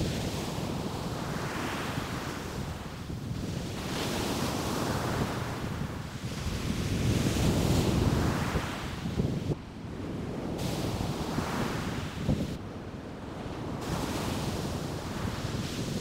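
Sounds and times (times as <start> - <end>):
ocean surf breaking on beach: 0.0 - 16.0
wind buffeting microphone: 0.0 - 16.0.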